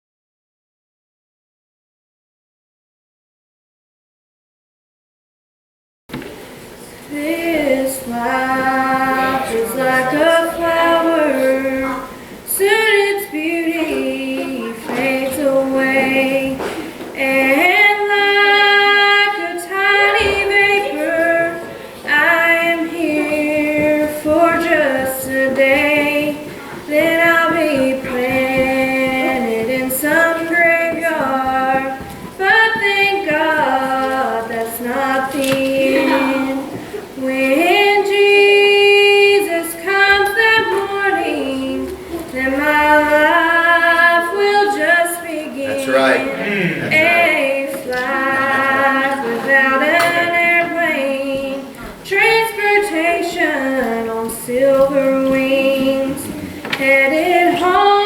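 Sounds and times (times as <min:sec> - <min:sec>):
woman singing gospel: 0:07.0 - 0:58.0.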